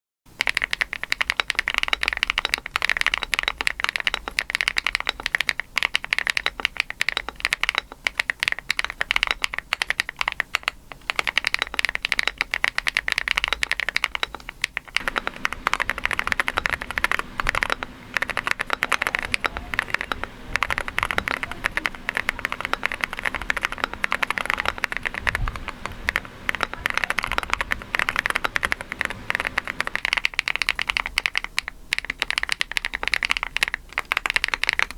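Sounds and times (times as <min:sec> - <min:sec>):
fast mechanical keyboard typing: 0:00.3 - 0:34.9.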